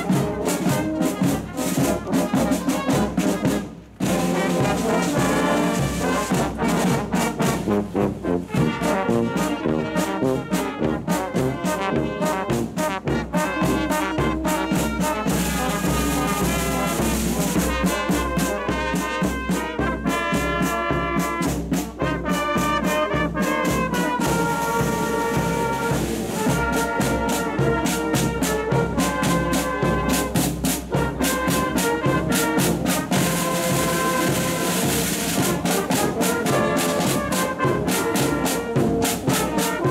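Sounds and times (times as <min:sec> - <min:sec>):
marching brass band playing: 0:00.0 - 0:39.9.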